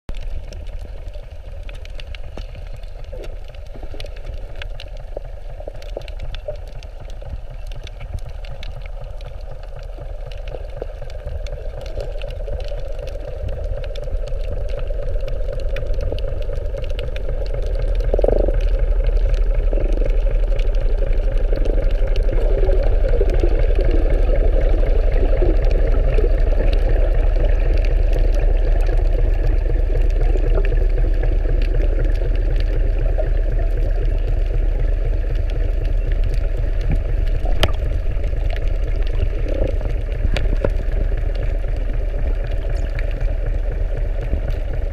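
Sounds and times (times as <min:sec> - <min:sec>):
boat engine idling underwater: 0:00.1 - 0:44.9
faint clicks: 0:00.1 - 0:44.9.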